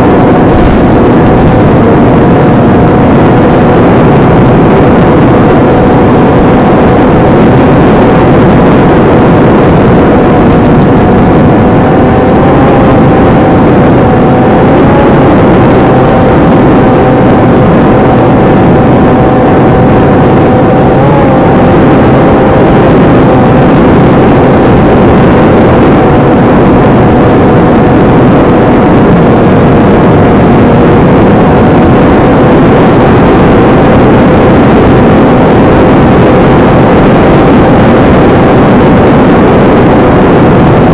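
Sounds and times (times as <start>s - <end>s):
electric motor whine: 0.0s - 40.9s
rushing air noise: 0.0s - 40.9s.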